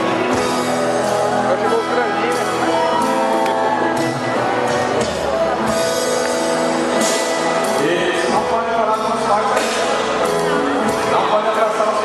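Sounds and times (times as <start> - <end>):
background music with guitar and drums: 0.0 - 12.0.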